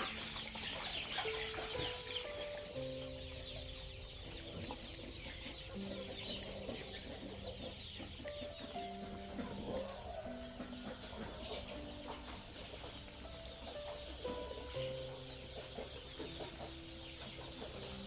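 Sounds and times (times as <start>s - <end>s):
chickens clucking: 0.0s - 18.0s
chickens scratching: 0.0s - 18.0s
soft background music: 0.0s - 18.0s.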